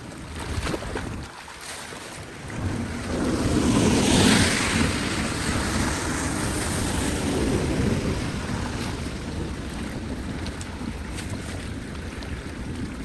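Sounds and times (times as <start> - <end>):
floodwater rushing through drain: 0.0 - 13.0.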